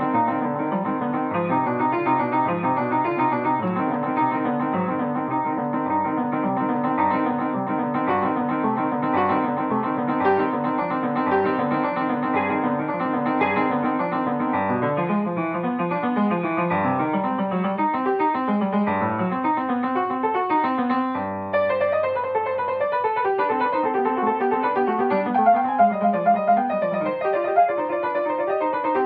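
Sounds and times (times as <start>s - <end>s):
upright piano playing classical: 0.0s - 29.0s.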